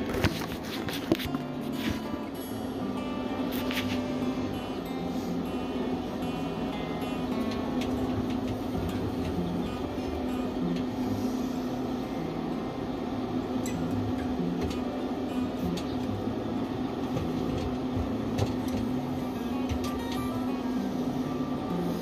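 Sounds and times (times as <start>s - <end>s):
incubator fan humming: 0.0s - 22.0s.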